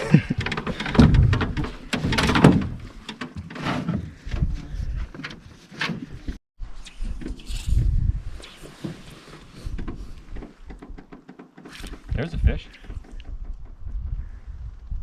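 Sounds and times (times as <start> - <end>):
wooden knocks and scrapes on boat: 0.0 - 6.4, 8.4 - 14.1.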